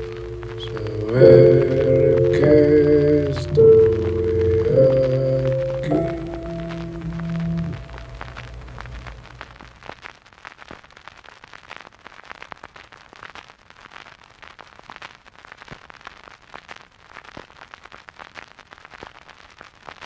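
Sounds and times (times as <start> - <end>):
vinyl record crackle and hiss: 0.0 - 20.0.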